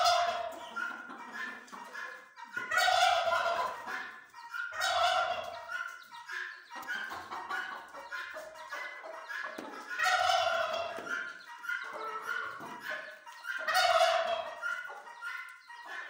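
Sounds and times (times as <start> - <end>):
chickens calling: 0.0 - 16.0.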